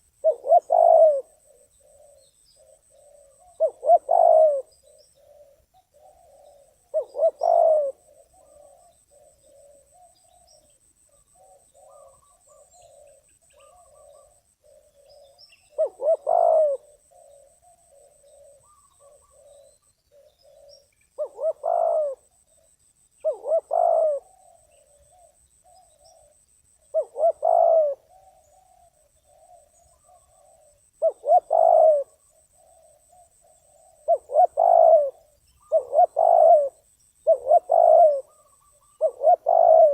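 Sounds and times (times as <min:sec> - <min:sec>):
faint cooing: 0:00.0 - 0:22.4, 0:23.2 - 0:39.9
dove cooing: 0:00.0 - 0:39.9.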